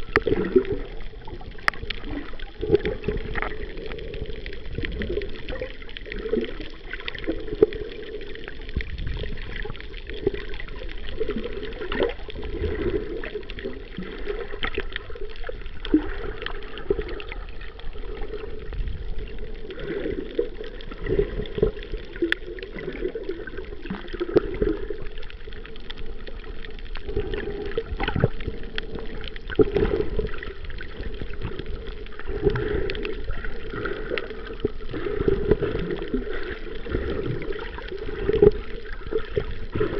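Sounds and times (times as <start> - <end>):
small underwater clicks: 0.0 - 39.9
underwater water swishing: 0.0 - 39.9.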